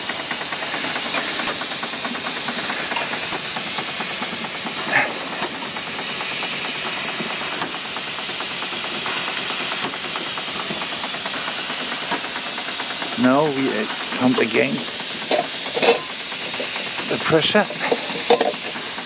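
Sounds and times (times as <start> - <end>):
fast mechanical ticking: 0.0 - 19.0
steam hissing: 0.0 - 19.0.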